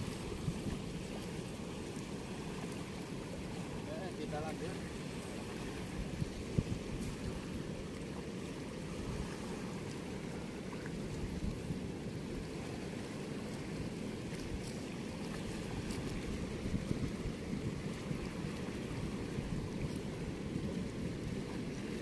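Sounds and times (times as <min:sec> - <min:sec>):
water rushing through sluice gate: 0:00.0 - 0:22.0.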